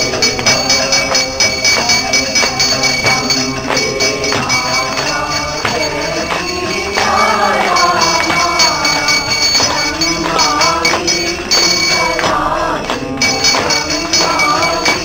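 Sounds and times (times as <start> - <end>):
bell ringing: 0.0 - 15.0
devotional singing: 0.0 - 15.0
steady drum beat: 0.0 - 15.0.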